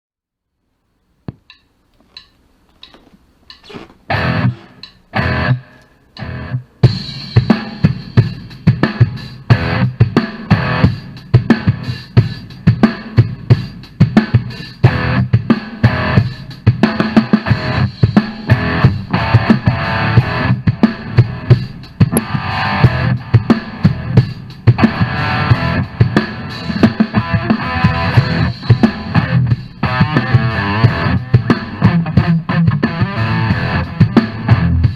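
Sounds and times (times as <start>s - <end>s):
hard rock guitar and drums: 3.7s - 5.6s, 6.2s - 34.9s.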